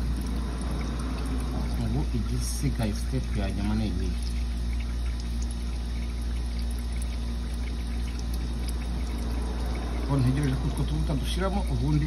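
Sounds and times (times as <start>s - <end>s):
low hum: 0.0s - 12.0s
oil trickling from drain hole: 0.0s - 12.0s.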